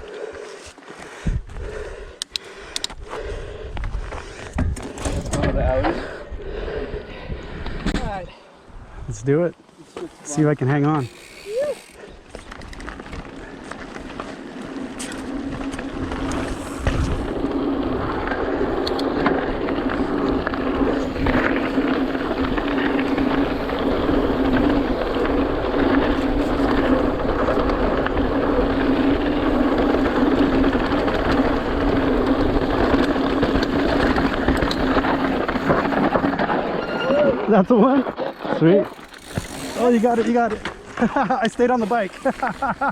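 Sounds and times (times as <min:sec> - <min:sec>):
bike tyres on dirt trail: 0:00.0 - 0:42.9
bike rattling and knocking: 0:04.1 - 0:06.0, 0:10.3 - 0:42.9.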